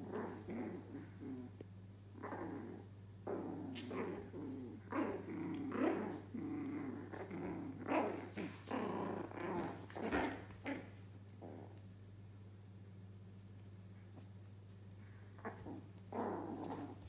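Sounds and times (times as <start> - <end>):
puppies growling: 0.0 - 11.8, 15.1 - 17.0.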